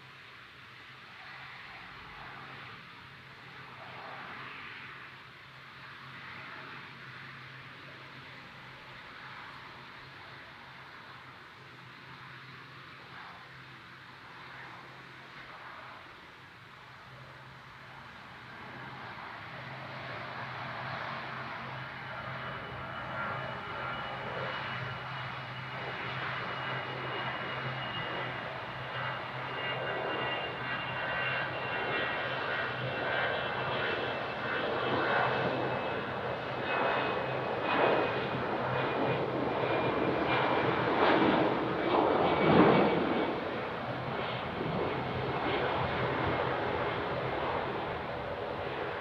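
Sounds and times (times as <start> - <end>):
jet engines at takeoff: 0.0 - 49.0.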